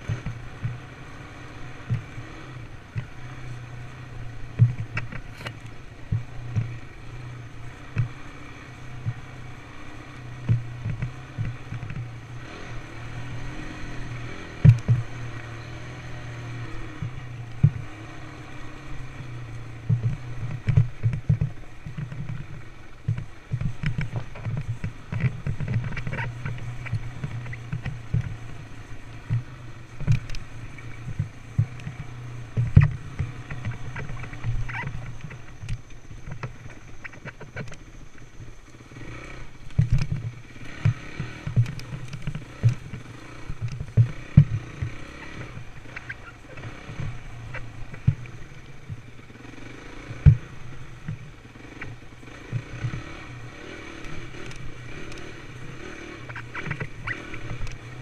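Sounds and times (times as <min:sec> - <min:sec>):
dirt bike engine running: 0:00.0 - 0:58.0
sharp knocks over bumps: 0:01.8 - 0:06.9, 0:07.7 - 0:37.9, 0:39.6 - 0:58.0.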